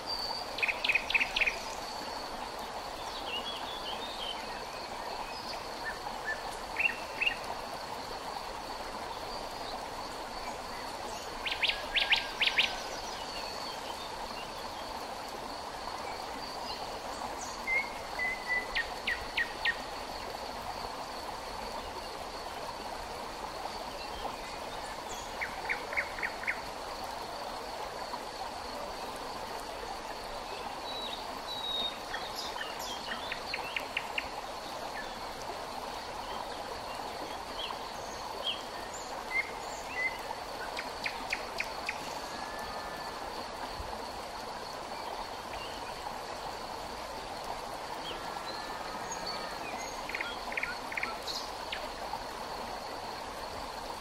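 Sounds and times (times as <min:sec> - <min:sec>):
insects trilling: 0:00.0 - 0:54.0
river water running: 0:00.0 - 0:54.0.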